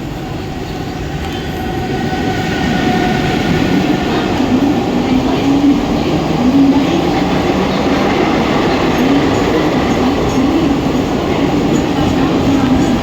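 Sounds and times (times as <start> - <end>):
train wheels on track: 0.0 - 13.0.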